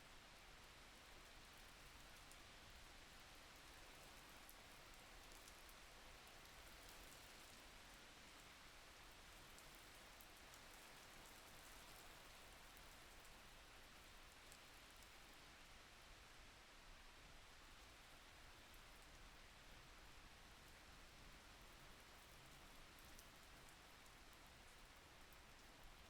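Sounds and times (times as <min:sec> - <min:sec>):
faint steady rain: 0:00.0 - 0:26.0.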